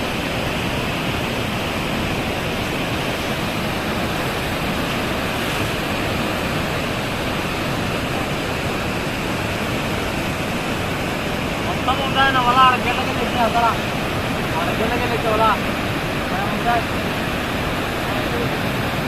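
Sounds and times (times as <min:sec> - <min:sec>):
fast-flowing river water rushing: 0:00.0 - 0:19.0.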